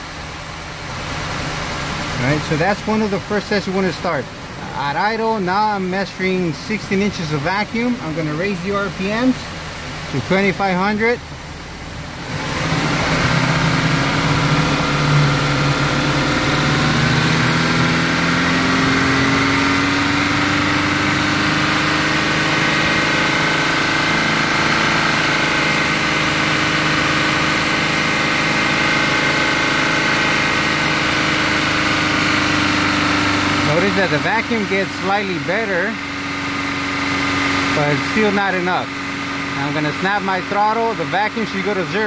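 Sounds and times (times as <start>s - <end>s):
car engine running rough: 0.0s - 42.0s.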